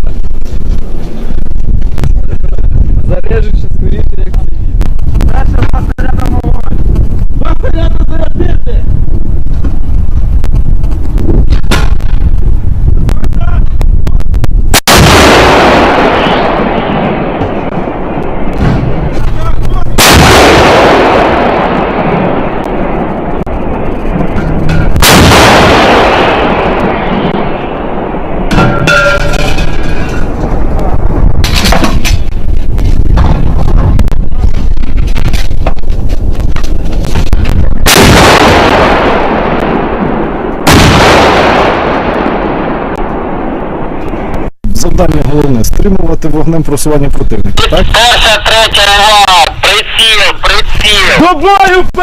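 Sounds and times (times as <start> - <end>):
howitzer shots with rumble: 0.0 - 51.2.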